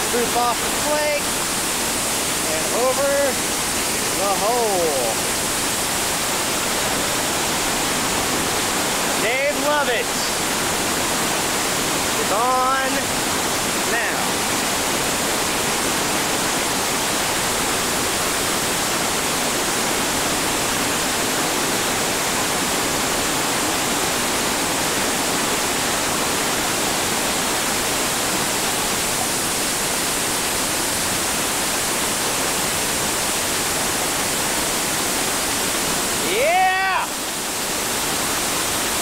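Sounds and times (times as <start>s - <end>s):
whitewater rushing over waterfall: 0.0s - 39.0s.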